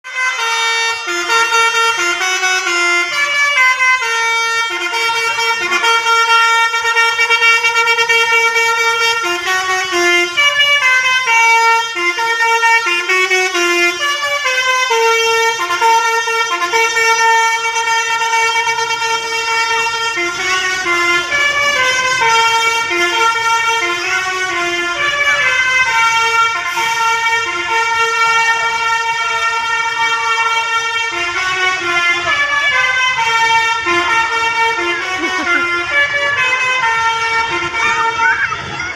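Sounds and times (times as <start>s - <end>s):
musical air horn playing a tune: 0.0s - 38.3s.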